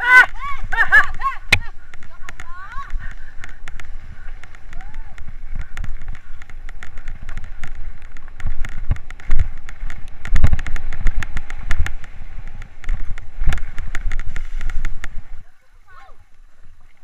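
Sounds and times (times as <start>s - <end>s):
bike rattling on rough trail: 0.0s - 15.4s.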